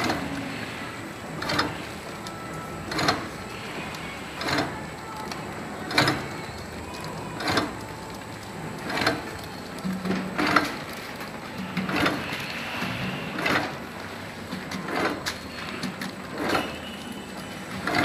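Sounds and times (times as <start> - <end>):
packing machine running: 0.0 - 18.0.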